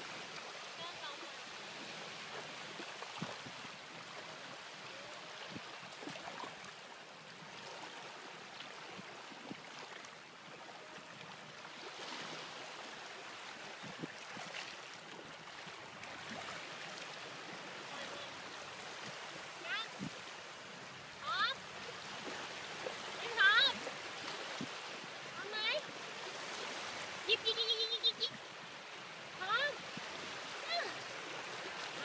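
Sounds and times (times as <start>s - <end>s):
small waves lapping: 0.0s - 32.0s.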